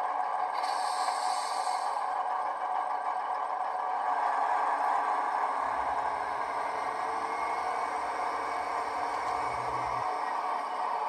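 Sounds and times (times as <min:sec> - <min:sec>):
diesel engine sound from small speaker: 0:00.2 - 0:11.0.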